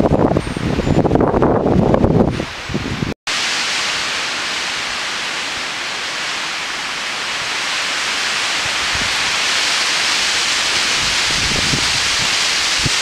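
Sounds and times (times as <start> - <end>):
wind rushing through trees: 0.0 - 13.0.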